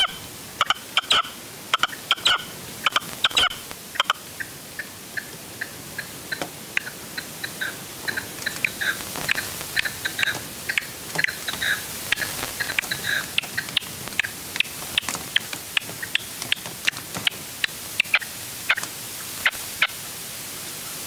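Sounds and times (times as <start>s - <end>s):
partridge clucking call: 0.0s - 20.0s.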